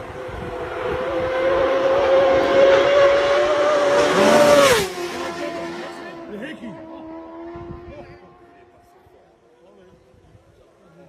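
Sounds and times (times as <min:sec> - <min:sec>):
motorcycle passing at speed: 0:00.0 - 0:08.9.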